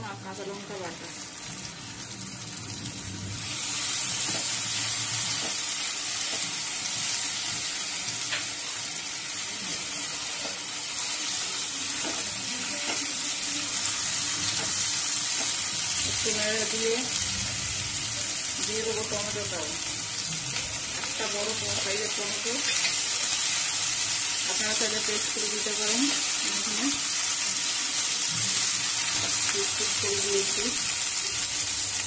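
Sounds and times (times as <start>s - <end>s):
paste sizzling in hot oil: 1.0s - 32.0s.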